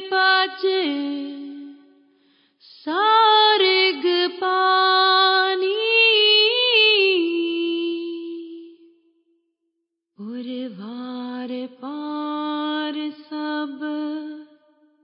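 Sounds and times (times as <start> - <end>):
person singing devotional song: 0.0 - 9.0, 10.2 - 14.7.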